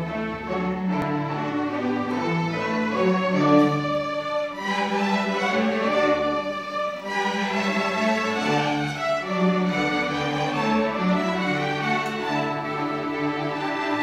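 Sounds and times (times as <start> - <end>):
string orchestra playing: 0.0 - 14.0.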